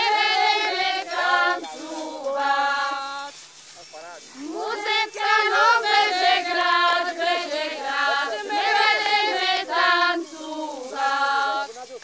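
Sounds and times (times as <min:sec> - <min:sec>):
women singing folk song: 0:00.0 - 0:03.5, 0:04.3 - 0:11.8.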